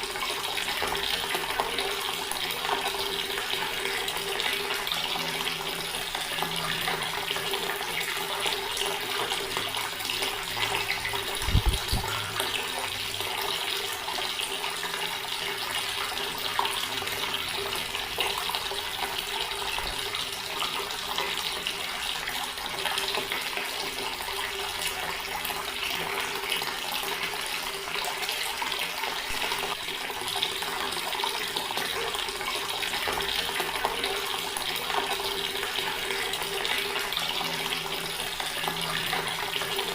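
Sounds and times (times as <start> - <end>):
tap water splashing into basin: 0.0 - 39.9.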